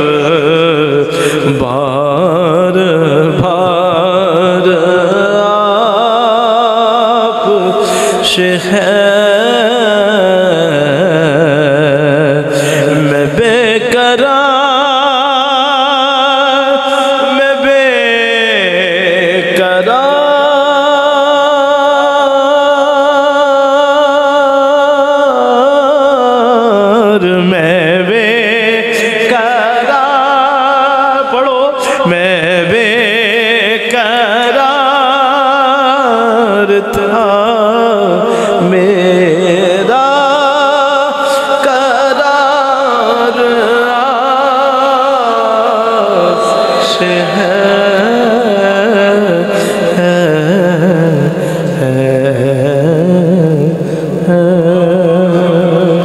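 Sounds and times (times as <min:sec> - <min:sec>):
man singing devotional song: 0:00.0 - 0:56.0.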